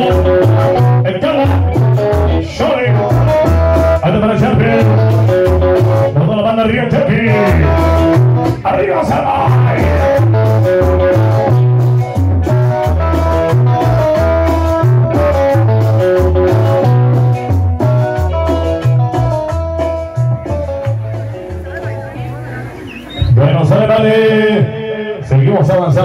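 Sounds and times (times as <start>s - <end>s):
latin dance music: 0.0s - 26.0s.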